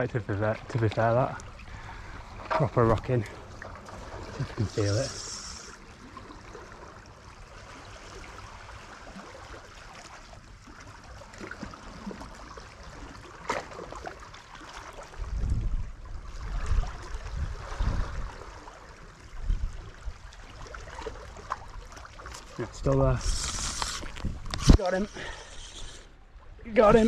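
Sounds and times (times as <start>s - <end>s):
sea water lapping against rocks: 0.0s - 27.0s.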